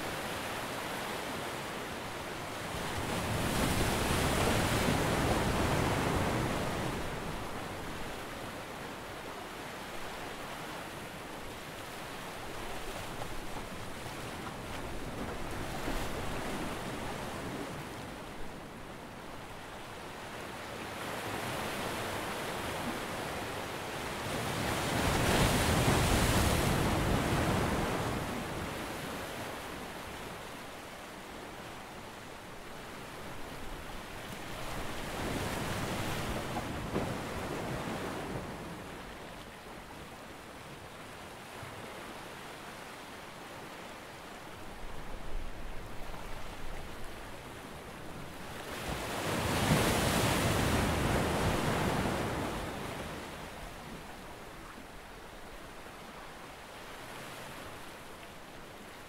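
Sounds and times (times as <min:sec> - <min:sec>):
wind: 0:00.0 - 0:59.0.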